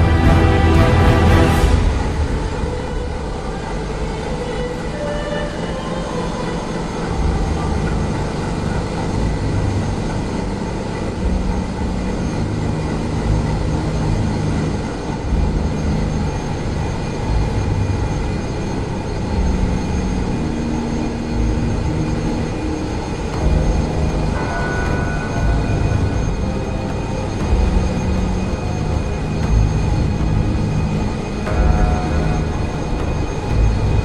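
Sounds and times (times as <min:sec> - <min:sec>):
engine room machinery din: 0:00.0 - 0:34.0
steady humming tones: 0:00.0 - 0:34.0.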